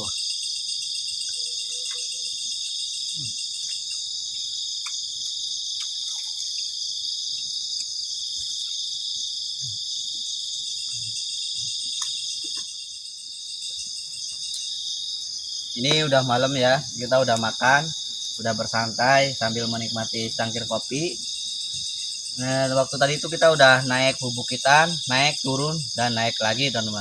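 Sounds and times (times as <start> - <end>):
campfire crackling: 0.0 - 27.0
crickets trilling: 0.0 - 27.0.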